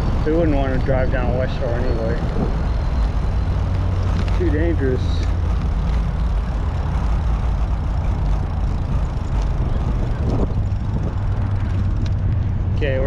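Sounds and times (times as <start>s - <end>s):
road traffic rumble: 0.0s - 13.0s
wind on microphone: 0.0s - 13.0s.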